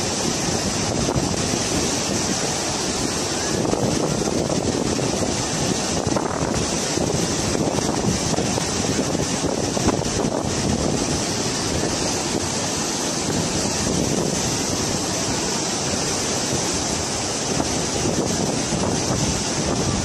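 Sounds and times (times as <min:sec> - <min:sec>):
floodwater rushing: 0:00.0 - 0:20.0
wind buffeting microphone: 0:00.0 - 0:20.0.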